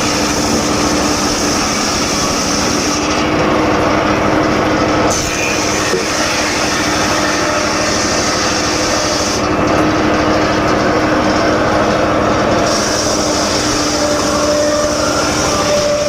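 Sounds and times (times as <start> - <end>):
circular saw running: 0.0 - 16.0.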